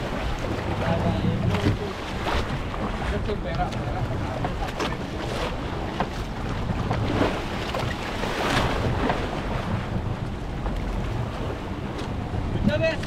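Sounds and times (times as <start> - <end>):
boat engine rumble: 0.0 - 13.0
water splashing along hull: 0.0 - 13.0
wind buffeting microphone: 0.0 - 13.0.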